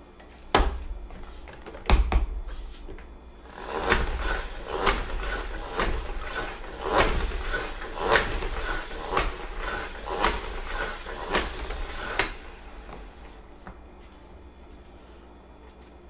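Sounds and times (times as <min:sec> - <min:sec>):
mop head spinning with whirring clatter: 0:00.2 - 0:16.0
mop bucket pedal pumping: 0:00.6 - 0:13.8.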